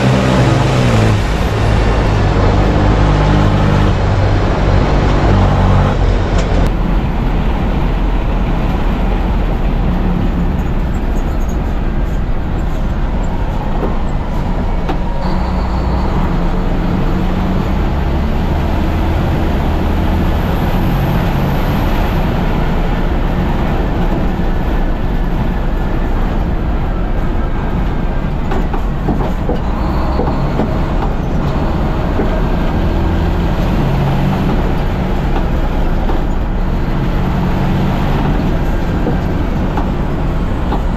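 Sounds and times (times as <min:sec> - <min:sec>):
diesel engine revving: 0:00.0 - 0:40.9.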